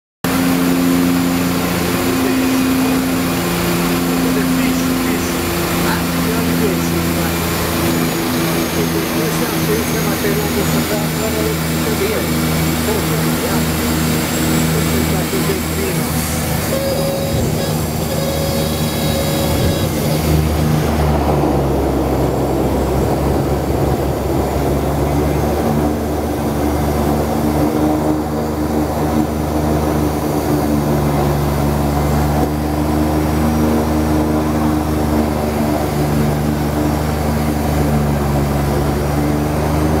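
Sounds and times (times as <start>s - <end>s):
turboprop engines droning: 0.2s - 40.0s.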